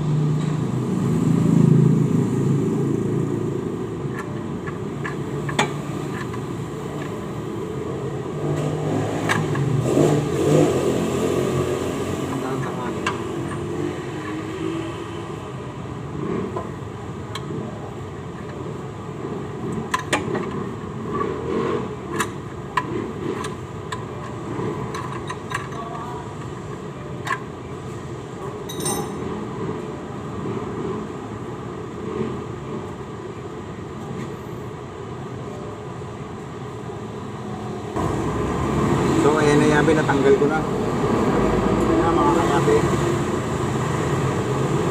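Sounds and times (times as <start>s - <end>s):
steady background noise: 0.0s - 44.9s.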